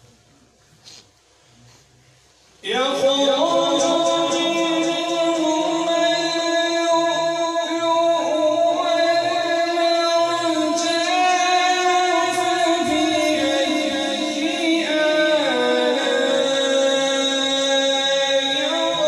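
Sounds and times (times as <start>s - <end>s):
man chanting a recitation: 2.6s - 19.0s.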